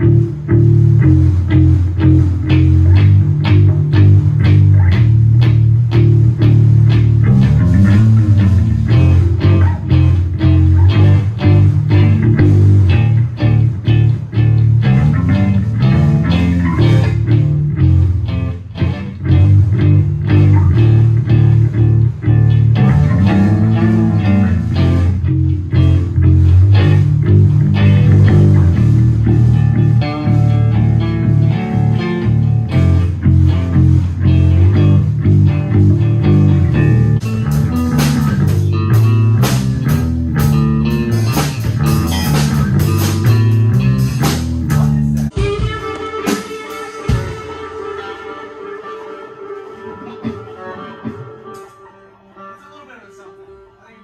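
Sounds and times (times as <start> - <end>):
bass guitar: 0.0 - 49.0
drums: 0.0 - 51.8
rock band playing: 0.0 - 53.7
electric guitar riff: 0.0 - 53.9.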